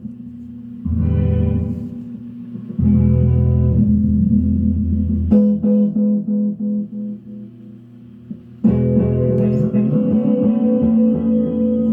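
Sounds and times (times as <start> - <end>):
guitar with tape echo: 0.8 - 11.9.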